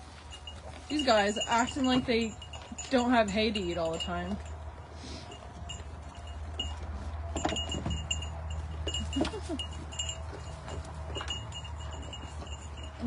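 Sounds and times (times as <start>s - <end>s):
wind chimes tinkling: 0.0s - 13.0s.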